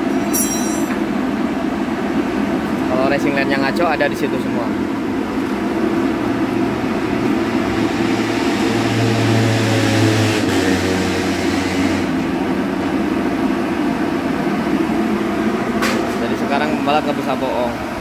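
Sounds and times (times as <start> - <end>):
constant background noise: 0.0 - 8.7, 12.0 - 18.0
mechanical hum: 0.0 - 18.0.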